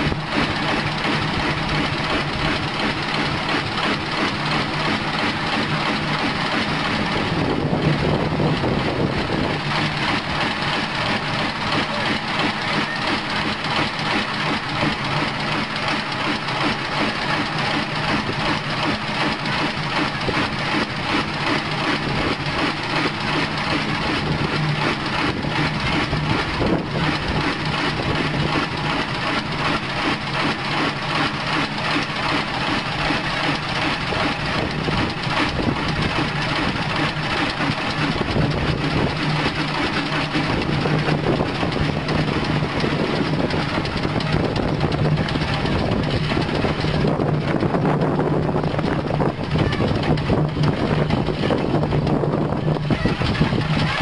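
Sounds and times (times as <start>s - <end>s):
stationary engine clattering: 0.0s - 54.0s.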